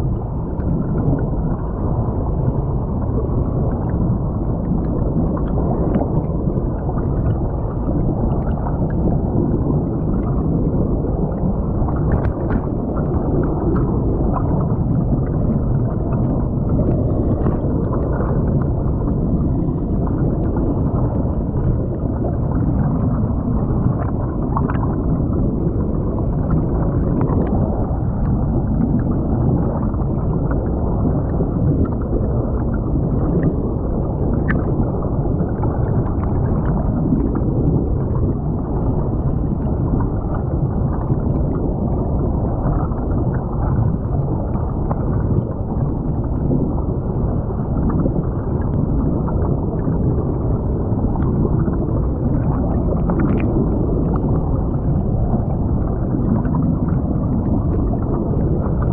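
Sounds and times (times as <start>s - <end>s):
muffled underwater water rushing: 0.0s - 58.9s.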